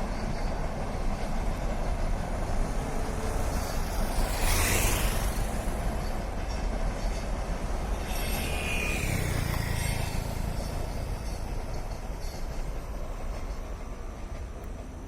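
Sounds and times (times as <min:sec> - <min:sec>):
train rumbling on rails: 0:00.0 - 0:15.0
train wheel squeal: 0:00.0 - 0:15.0.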